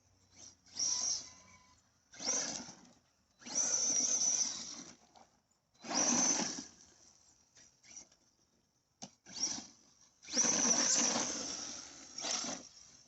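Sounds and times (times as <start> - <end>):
rc truck motor whirring: 0.0 - 13.0.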